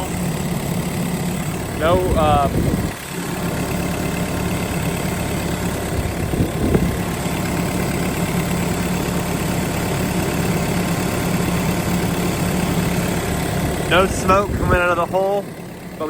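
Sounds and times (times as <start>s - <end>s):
excavator diesel engine idling: 0.0s - 16.0s.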